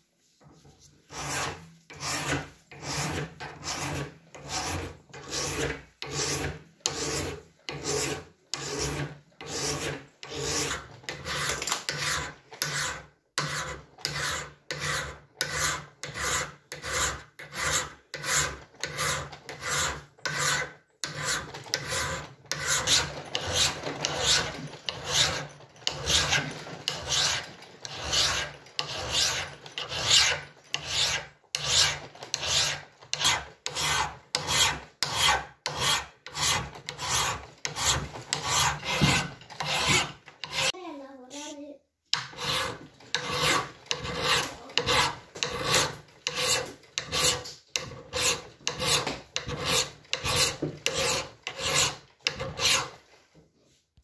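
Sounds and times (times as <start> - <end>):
hand file rasping on metal: 1.0 - 40.8, 42.1 - 53.1.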